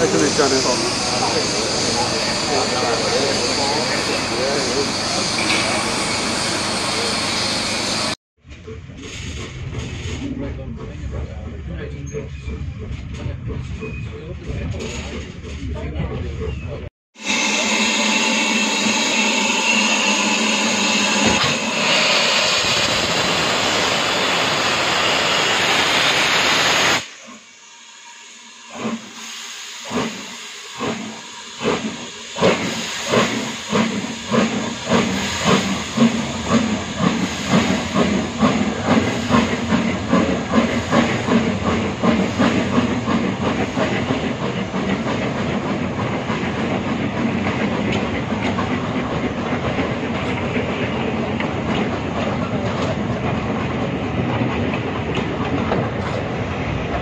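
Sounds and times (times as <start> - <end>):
steam train hissing: 0.0 - 8.2, 17.2 - 56.6.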